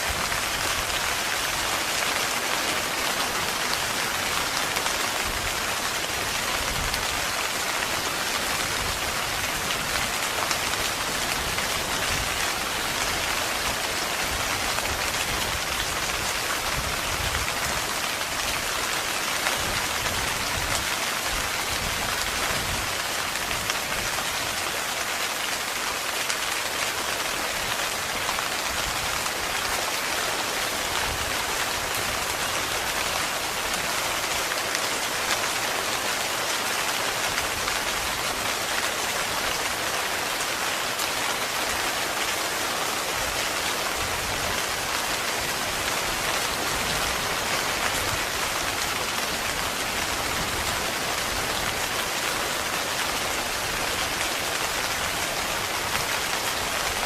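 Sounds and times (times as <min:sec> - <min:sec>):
heavy rain pattering on a tent: 0:00.0 - 0:57.0.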